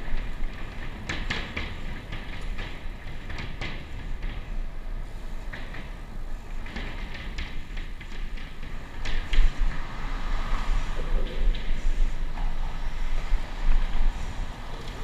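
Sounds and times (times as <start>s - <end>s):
bicycle riding rumble: 0.0s - 15.0s
wind on microphone: 0.0s - 15.0s.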